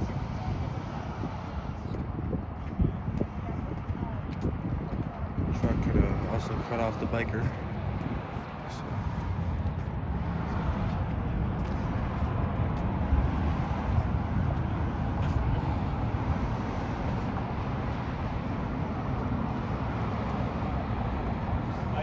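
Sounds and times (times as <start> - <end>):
road traffic engine rumble: 0.0 - 22.0.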